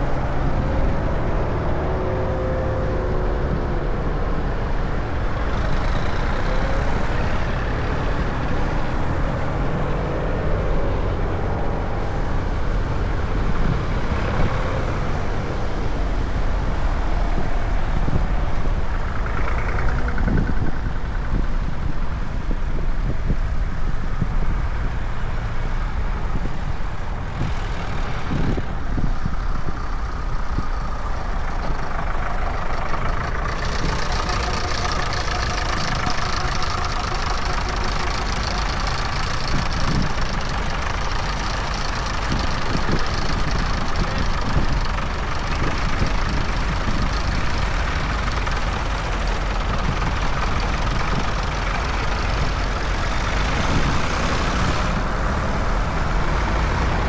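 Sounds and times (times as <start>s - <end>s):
tractor engines rumbling: 0.0s - 57.0s.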